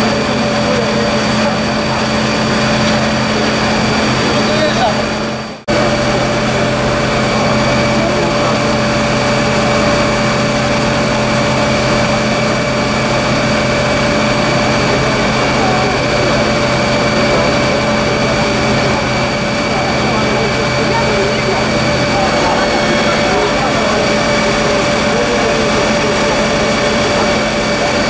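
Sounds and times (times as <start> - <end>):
fire engine drone: 0.0 - 28.0
steady whine: 0.0 - 28.0.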